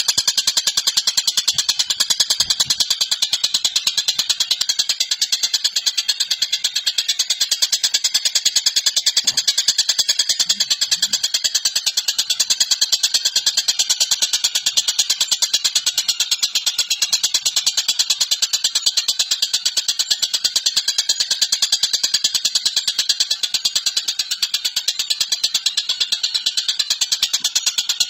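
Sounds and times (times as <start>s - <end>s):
bird calling in rapid rattle: 0.0s - 28.0s.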